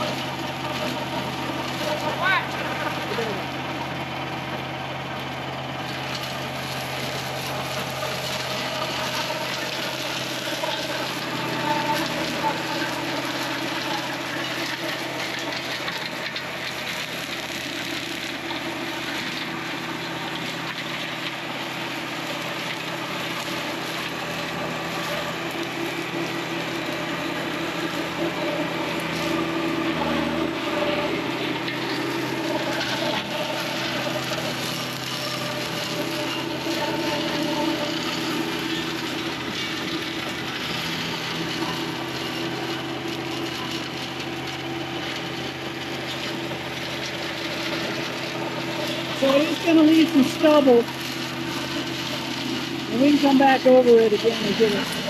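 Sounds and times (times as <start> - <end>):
flail mower thrashing brush: 0.0 - 55.0
tractor diesel engine running: 0.0 - 55.0.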